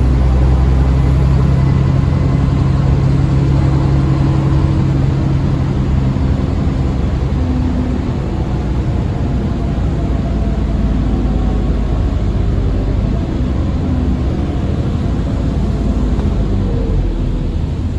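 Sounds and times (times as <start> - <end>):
bus engine drone: 0.0 - 17.9
road noise: 0.0 - 17.9.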